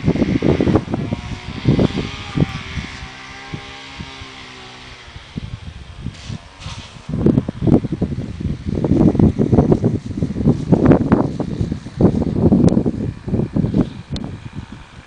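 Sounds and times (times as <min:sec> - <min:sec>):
engine drone: 0:00.0 - 0:15.0
wind buffeting microphone: 0:00.0 - 0:15.0.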